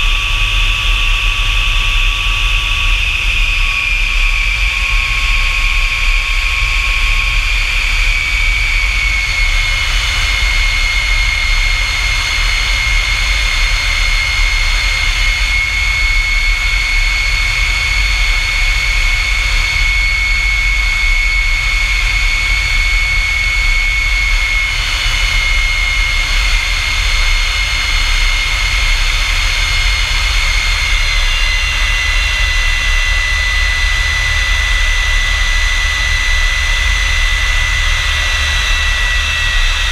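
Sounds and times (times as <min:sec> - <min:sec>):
jet engine whine and rumble: 0:00.0 - 0:39.9.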